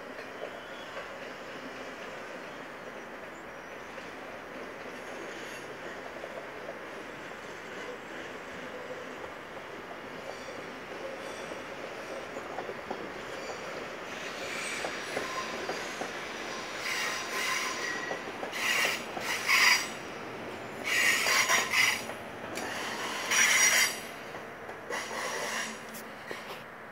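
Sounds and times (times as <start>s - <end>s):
train rolling rumble: 0.0s - 26.9s
train wheels squealing: 0.1s - 26.4s.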